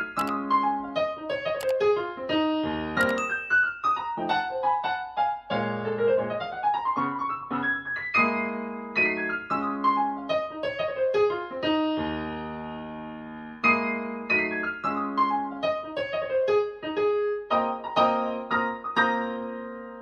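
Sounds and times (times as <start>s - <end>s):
solo piano music: 3.0s - 20.0s.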